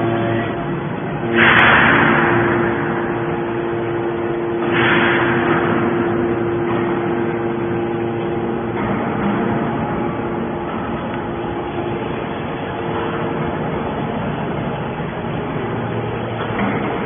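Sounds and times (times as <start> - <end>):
hydraulic power unit humming: 0.0 - 17.0
rushing surge of noise: 1.1 - 17.0.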